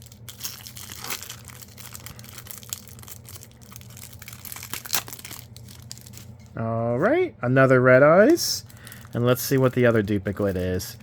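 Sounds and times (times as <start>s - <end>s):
foil wrapper crinkling and tearing: 0.0s - 6.4s, 8.2s - 11.0s.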